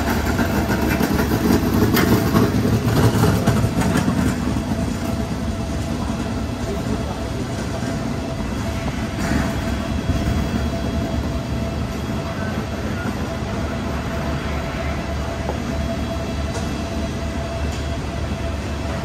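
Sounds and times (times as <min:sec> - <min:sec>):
diesel train rumble: 0:00.0 - 0:19.0.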